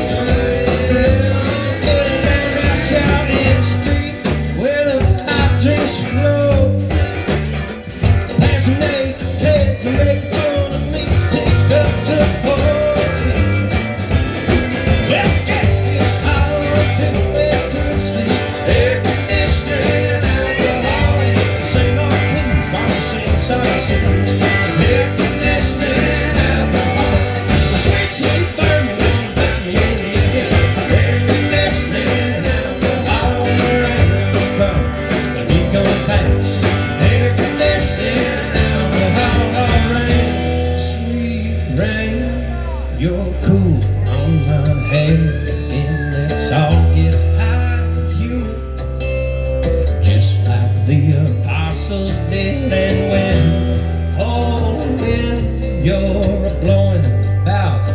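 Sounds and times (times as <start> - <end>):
country-rock band playing: 0.0 - 57.9
guitar: 0.0 - 57.9.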